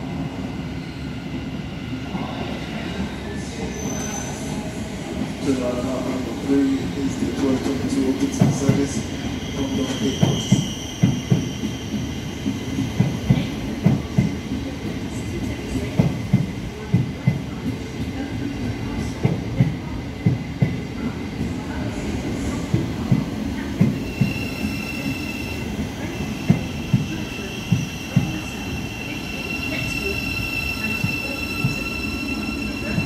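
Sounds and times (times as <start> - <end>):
train rumble: 2.2 - 33.0.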